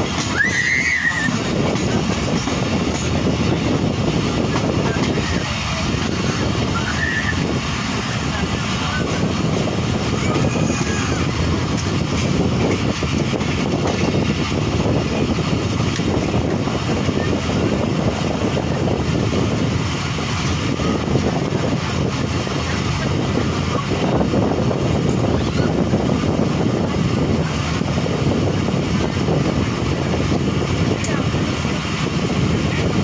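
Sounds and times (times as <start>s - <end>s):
train wheels rumbling: 0.0s - 33.0s
wind rushing: 0.0s - 33.0s.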